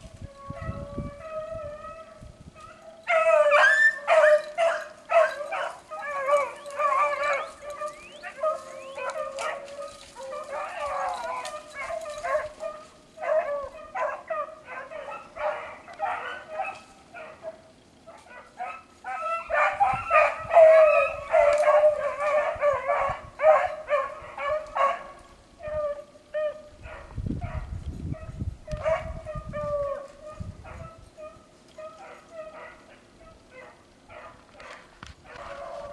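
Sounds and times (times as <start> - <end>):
pack of dogs baying: 0.4 - 35.9.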